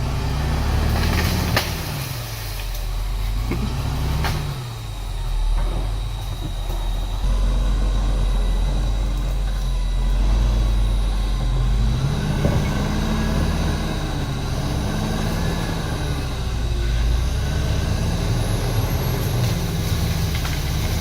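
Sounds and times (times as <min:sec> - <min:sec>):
heavy diesel engine running: 0:00.0 - 0:21.0
faint high whine: 0:01.9 - 0:21.0.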